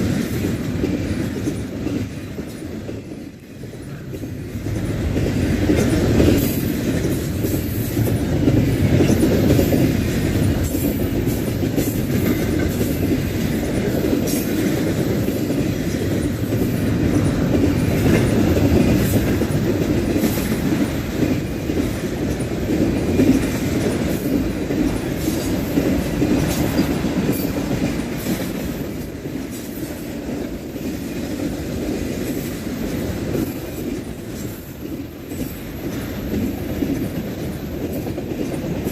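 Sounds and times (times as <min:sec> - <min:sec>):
low train rumble: 0:00.0 - 0:38.9
train wheels clacking: 0:00.0 - 0:38.9.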